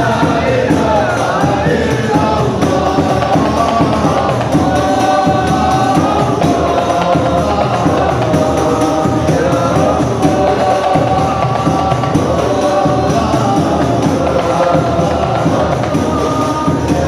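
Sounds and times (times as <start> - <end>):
men singing in unison: 0.0 - 17.0.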